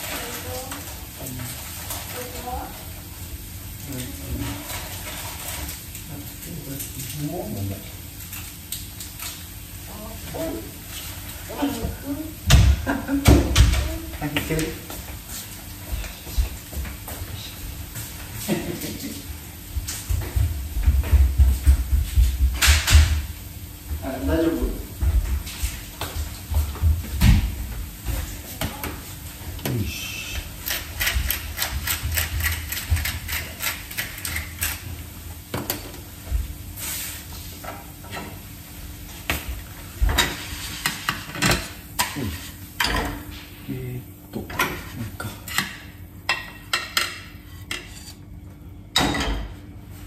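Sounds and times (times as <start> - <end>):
food frying in oil: 0.0 - 48.1.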